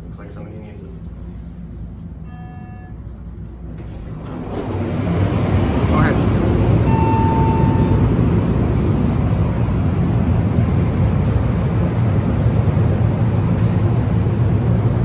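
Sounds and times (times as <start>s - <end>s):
low rumble of machinery: 0.0s - 15.0s.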